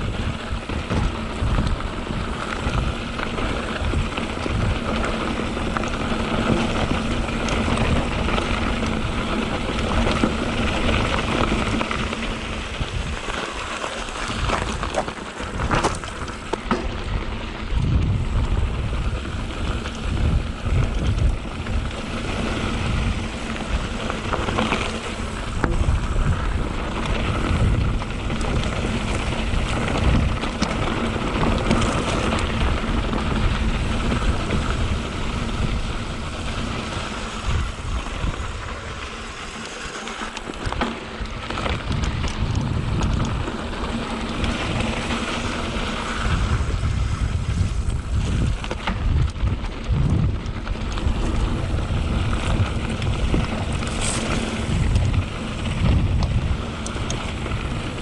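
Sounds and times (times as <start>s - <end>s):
bike knocking and rattling: 0.0s - 58.0s
tyres on dirt and rock: 0.0s - 58.0s
wind rushing over microphone: 0.0s - 58.0s.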